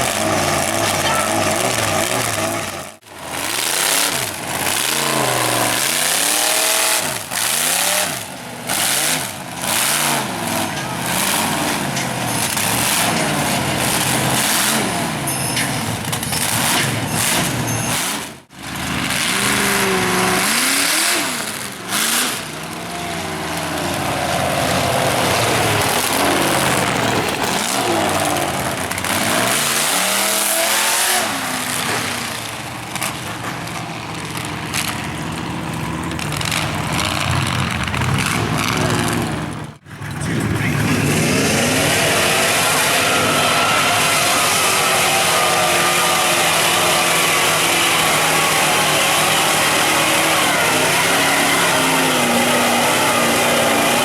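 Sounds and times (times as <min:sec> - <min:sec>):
truck engine revving hard: 0:00.0 - 0:54.0.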